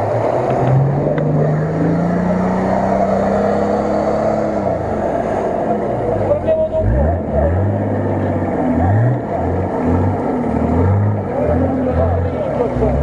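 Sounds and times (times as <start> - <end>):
off-road vehicle engine revving: 0.0 - 13.0
tyres churning water and mud: 0.0 - 13.0.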